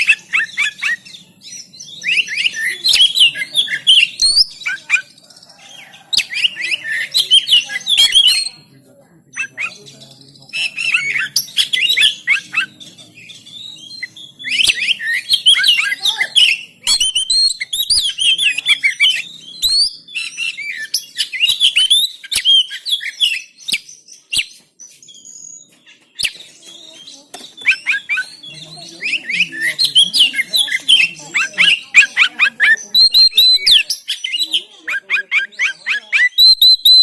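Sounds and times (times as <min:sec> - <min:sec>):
bird singing whistles and chirps: 0:00.0 - 0:08.7, 0:09.4 - 0:37.0.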